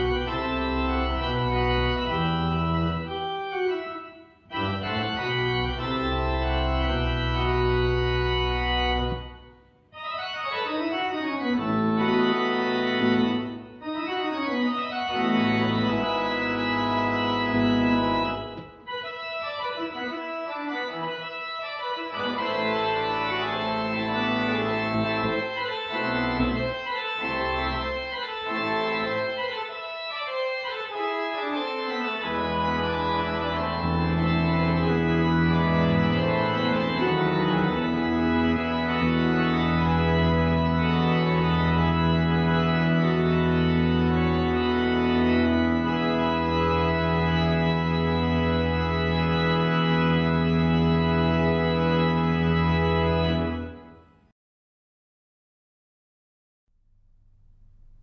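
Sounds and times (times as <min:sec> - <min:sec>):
organ pedal bass line: 0:00.0 - 0:54.1, 0:56.8 - 0:58.0
pipe organ chords: 0:00.0 - 0:54.3, 0:56.8 - 0:58.0.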